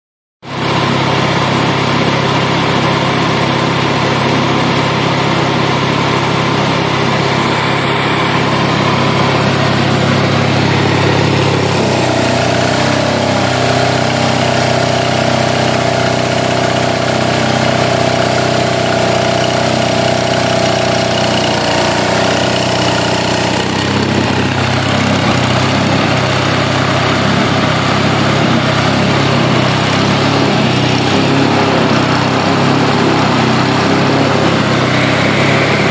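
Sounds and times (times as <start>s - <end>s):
compressor engine running: 0.4s - 35.9s
steady high whine: 3.8s - 35.9s.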